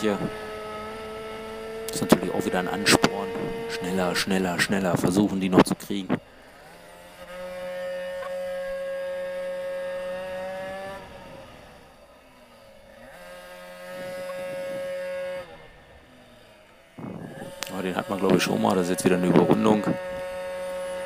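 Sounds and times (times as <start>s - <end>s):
two-stroke minibike engine revving: 0.0s - 21.0s.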